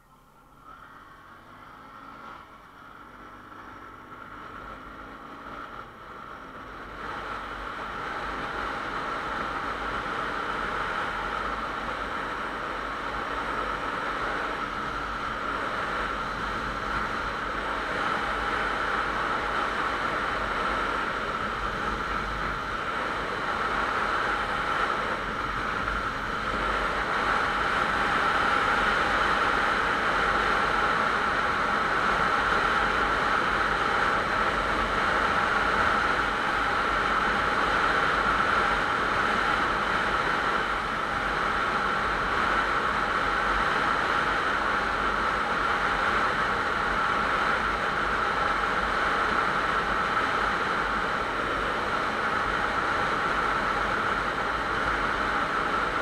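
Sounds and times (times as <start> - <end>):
motorcycle engine accelerating: 0.5 - 56.0.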